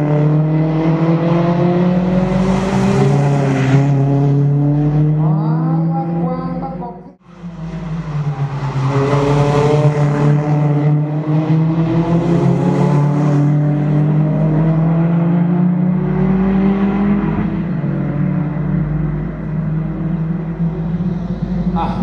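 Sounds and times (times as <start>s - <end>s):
race car engines accelerating: 0.0s - 22.0s.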